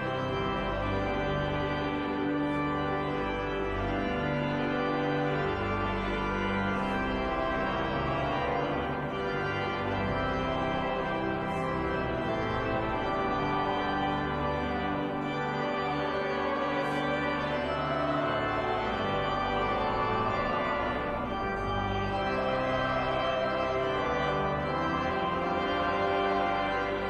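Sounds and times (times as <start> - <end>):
pipe organ chords: 0.0 - 27.0.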